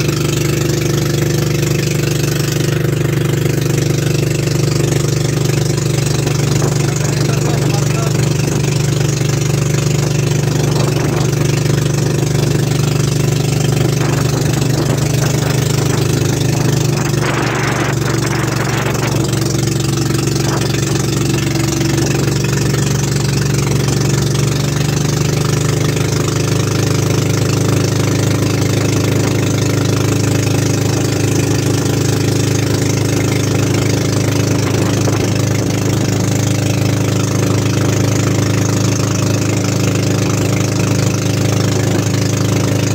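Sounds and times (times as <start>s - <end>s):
boat engine droning: 0.0s - 42.9s.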